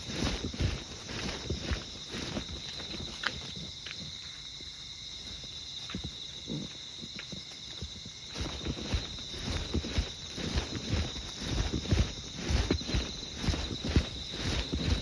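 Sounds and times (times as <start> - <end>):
footsteps: 0.0 - 15.0
insects trilling: 0.0 - 15.0.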